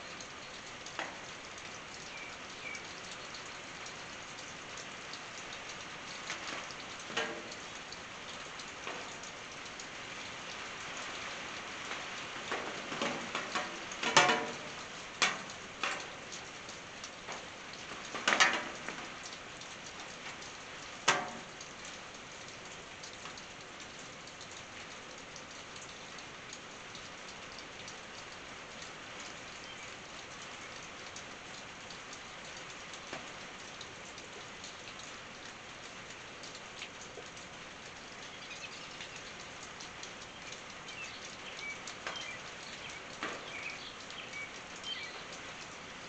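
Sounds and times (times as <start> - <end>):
rain on a tin roof: 0.0 - 46.0.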